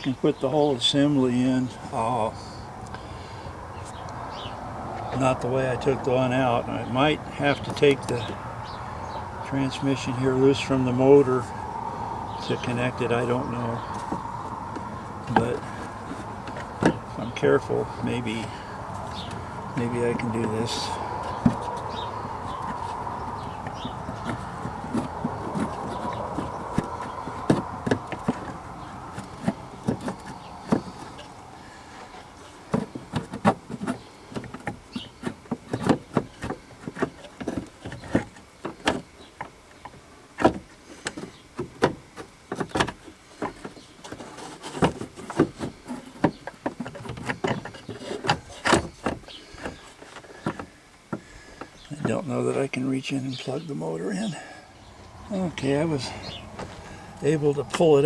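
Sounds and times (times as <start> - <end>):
steady buzzing hum: 0.2 - 58.0
clicks and clunks of wiper motor: 3.9 - 52.1.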